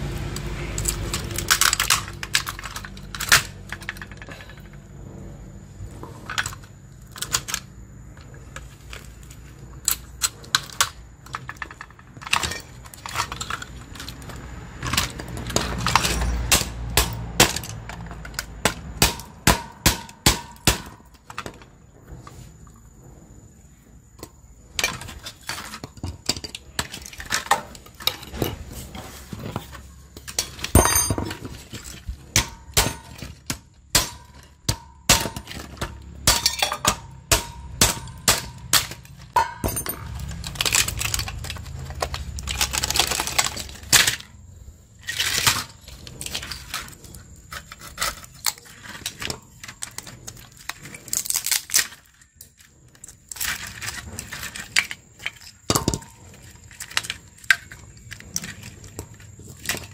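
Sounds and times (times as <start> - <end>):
metal parts and tools clinking: 0.0 - 5.3, 5.9 - 22.5, 24.2 - 59.9.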